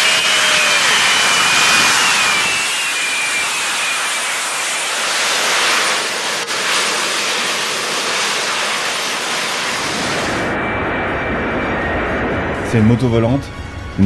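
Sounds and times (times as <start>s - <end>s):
jet turbines rushing: 0.0s - 14.0s.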